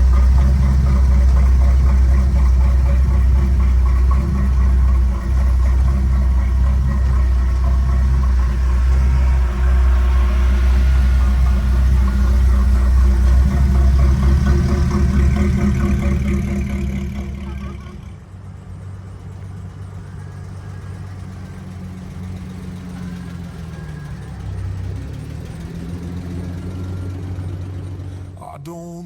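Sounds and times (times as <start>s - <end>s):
car engine rumble: 0.0s - 29.0s.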